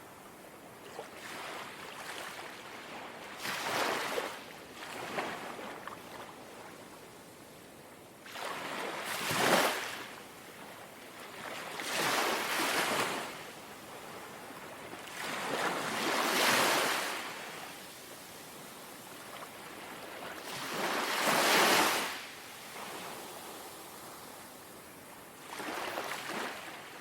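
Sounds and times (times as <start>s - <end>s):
sea waves lapping on shore: 0.9s - 6.5s, 8.2s - 10.2s, 11.2s - 27.0s.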